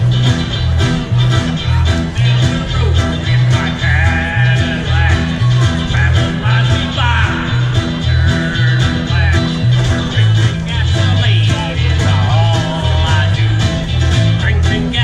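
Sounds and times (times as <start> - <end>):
pulsing bass line: 0.0 - 15.0
strummed ukuleles: 0.0 - 15.0
sung vocals: 0.0 - 15.0.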